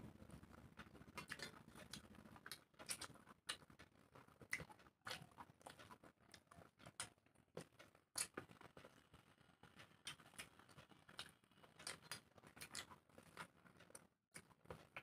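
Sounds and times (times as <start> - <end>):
chewing: 0.3 - 9.1, 9.7 - 15.0.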